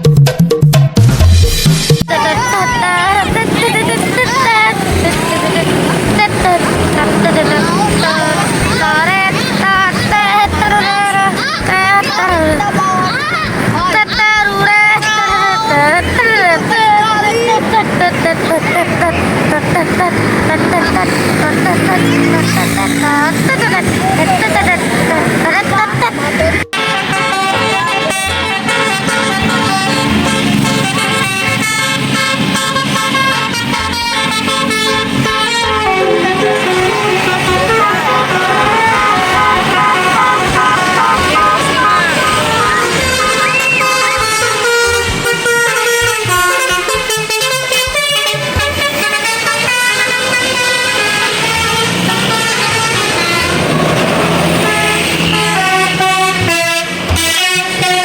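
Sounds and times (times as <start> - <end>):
low hum of buses: 1.5 - 58.0
musical bus horns playing a tune: 2.0 - 58.0.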